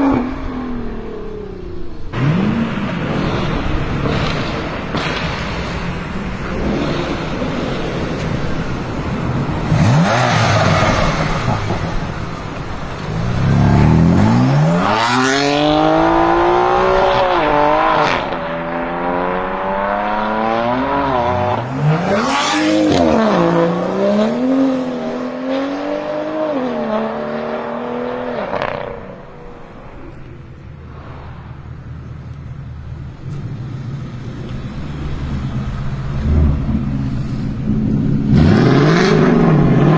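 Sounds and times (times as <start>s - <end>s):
car engine accelerating hard: 2.1s - 29.4s, 30.6s - 39.9s.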